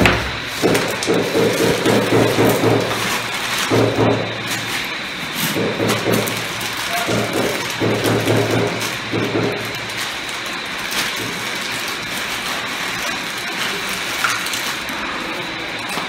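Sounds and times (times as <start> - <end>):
plastic bag crinkling: 0.2 - 16.0.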